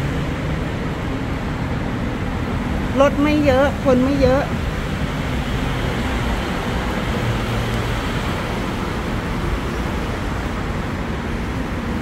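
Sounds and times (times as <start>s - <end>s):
city background rush: 0.0s - 12.0s.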